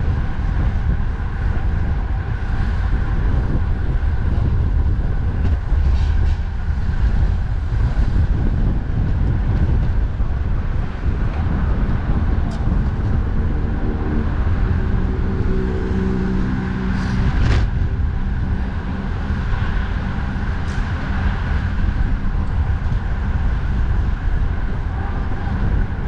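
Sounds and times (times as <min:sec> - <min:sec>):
highway traffic: 0:00.0 - 0:26.0
passing vehicle engine hum: 0:00.0 - 0:26.0
wind buffeting microphone: 0:00.0 - 0:26.0.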